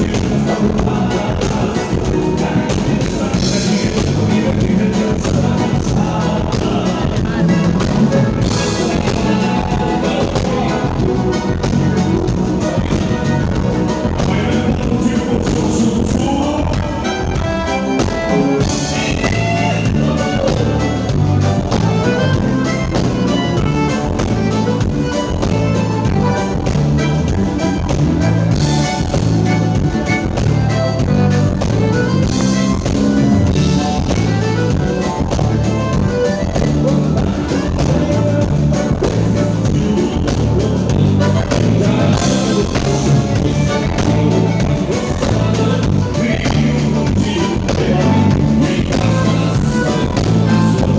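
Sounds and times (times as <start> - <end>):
band playing music: 0.0 - 50.9.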